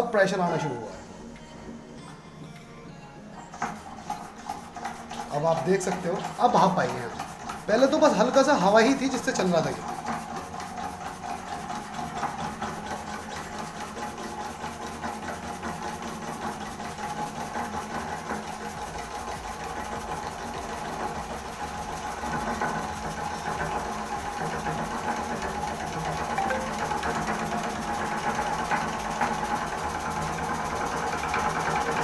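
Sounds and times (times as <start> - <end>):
steam engine rapid mechanical beat: 3.6 - 32.0.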